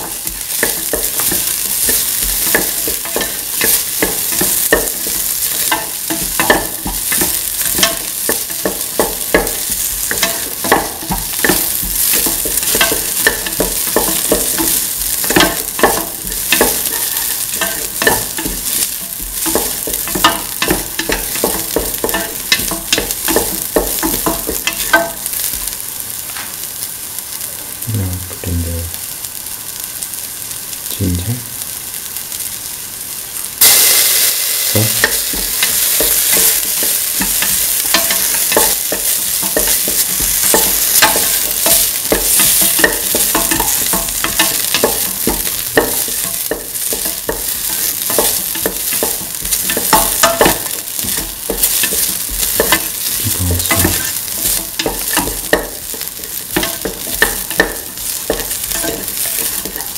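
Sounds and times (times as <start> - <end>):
onions frying in oil: 0.0 - 59.9.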